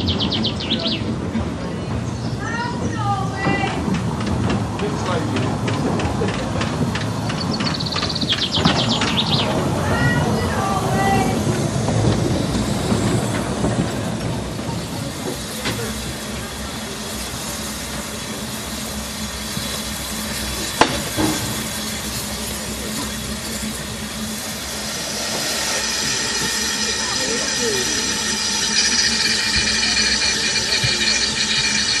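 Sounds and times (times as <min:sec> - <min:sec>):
steam hissing: 0:02.5 - 0:32.0.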